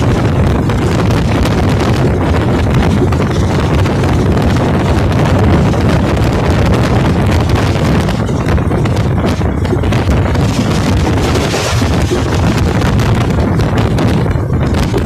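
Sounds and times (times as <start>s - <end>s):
train rumbling: 0.0s - 15.0s
wind buffeting microphone: 0.0s - 15.0s.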